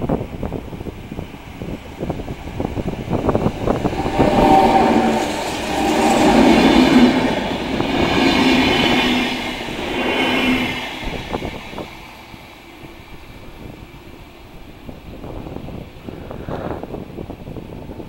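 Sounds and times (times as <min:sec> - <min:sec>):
train rumble with humming tone: 0:00.0 - 0:18.0.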